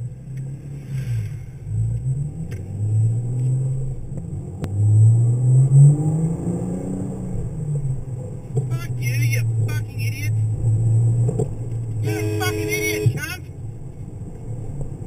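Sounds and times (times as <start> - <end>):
car engine revving inside cabin: 0.0 - 15.0.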